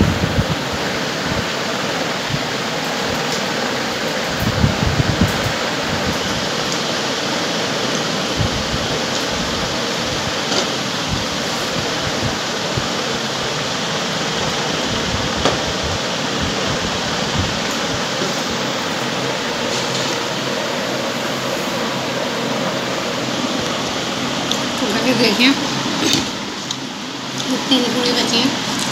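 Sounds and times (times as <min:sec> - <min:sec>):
steady rushing noise: 0:00.0 - 0:28.9.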